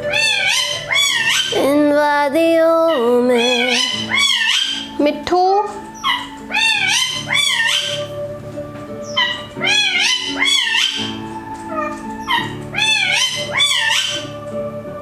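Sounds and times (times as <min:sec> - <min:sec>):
parakeet calling shrilly: 0:00.0 - 0:01.8, 0:02.9 - 0:14.6
backing track low notes: 0:00.0 - 0:15.0.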